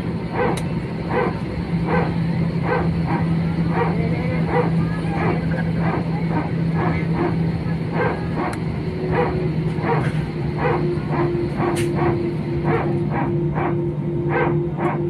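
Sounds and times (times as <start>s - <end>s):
steady low hum: 0.0s - 15.0s
dog barking: 0.4s - 15.0s.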